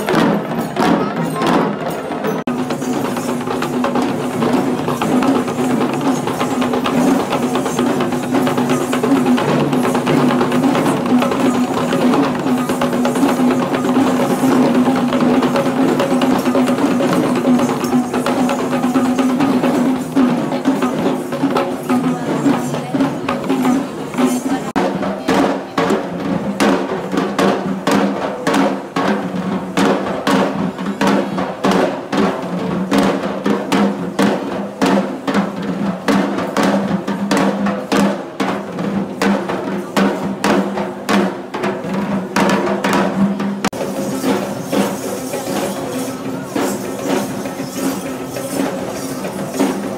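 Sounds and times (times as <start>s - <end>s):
drums beaten rapidly: 0.0s - 49.9s.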